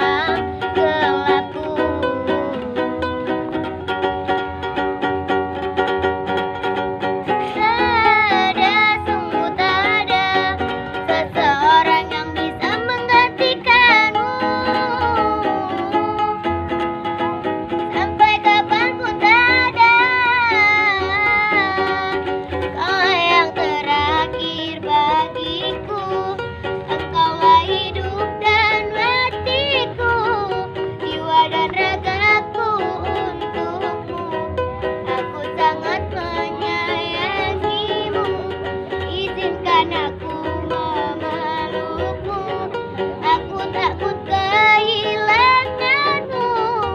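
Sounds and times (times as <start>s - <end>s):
person singing: 0.0s - 5.0s, 7.0s - 46.9s
ukulele strumming: 0.0s - 46.9s.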